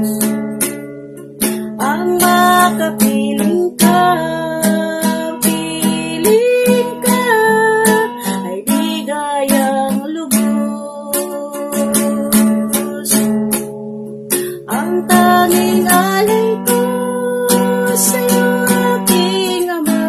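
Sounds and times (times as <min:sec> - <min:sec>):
woman singing: 0:00.0 - 0:00.6, 0:01.4 - 0:20.0
acoustic guitar strumming: 0:00.0 - 0:20.0.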